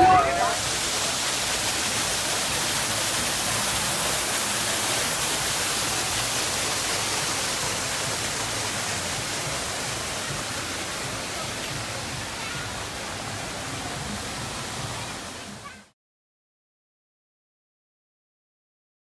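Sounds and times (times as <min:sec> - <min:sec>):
small waterfall splashing: 0:00.0 - 0:15.9.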